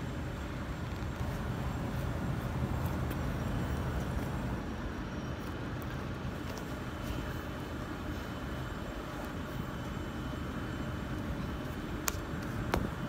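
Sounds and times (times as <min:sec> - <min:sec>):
steady low rumbling: 0:00.0 - 0:13.0.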